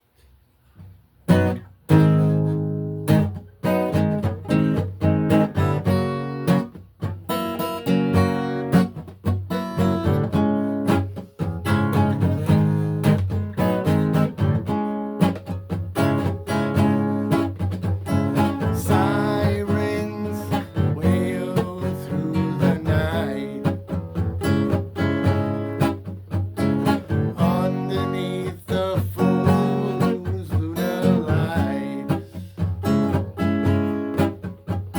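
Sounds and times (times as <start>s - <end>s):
acoustic guitar strumming: 0.8s - 34.9s.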